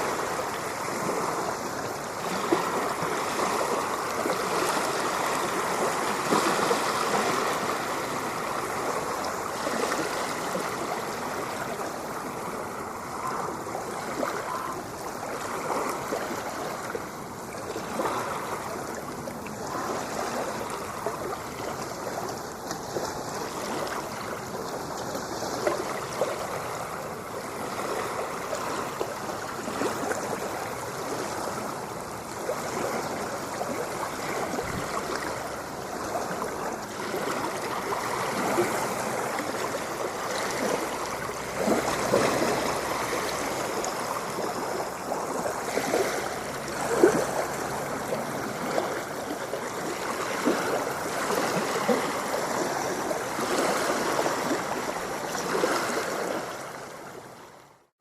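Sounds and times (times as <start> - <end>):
ocean water washing and splashing: 0.0 - 58.0.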